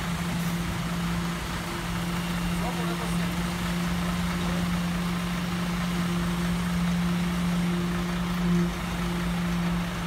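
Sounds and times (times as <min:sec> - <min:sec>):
concrete mixer truck humming: 0:00.0 - 0:10.0.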